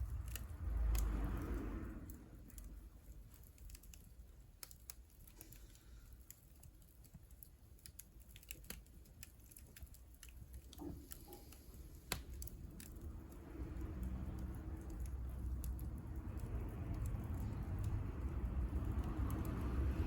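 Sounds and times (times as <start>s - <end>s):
firewood crackling in stove: 0.0s - 20.0s.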